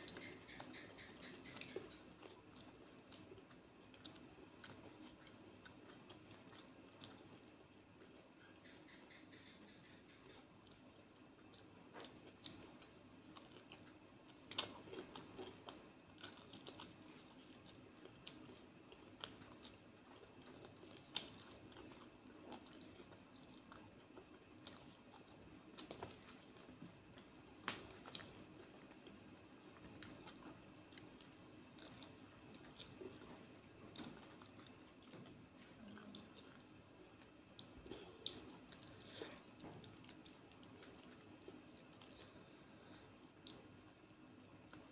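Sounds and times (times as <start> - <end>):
person chewing food: 0.0 - 44.9.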